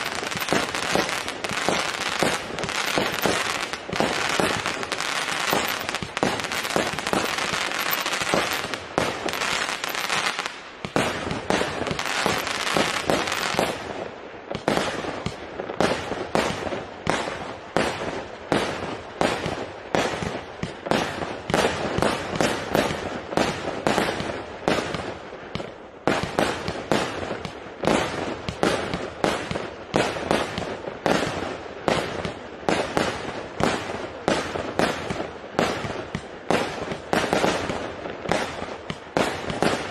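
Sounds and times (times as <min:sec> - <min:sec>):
firework cake firing: 0:00.0 - 0:39.9.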